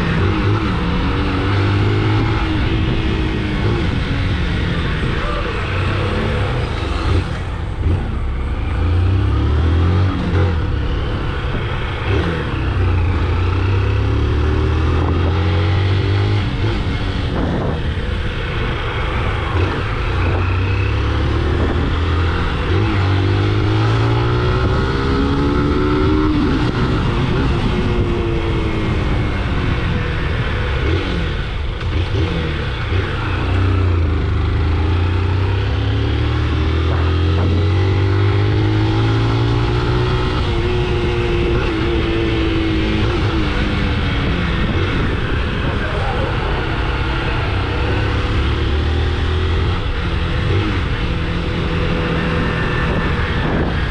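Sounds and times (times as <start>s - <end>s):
motorcycle engine speeding up: 0.0s - 53.9s.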